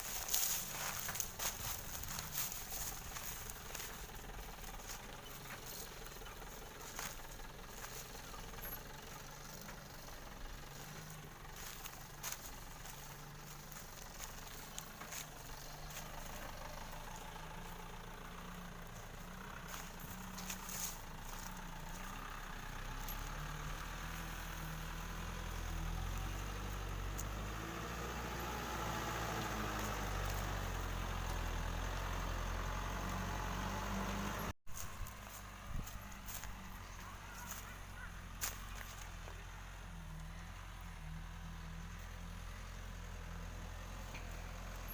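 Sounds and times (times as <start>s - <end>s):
truck engine humming: 0.0s - 44.9s.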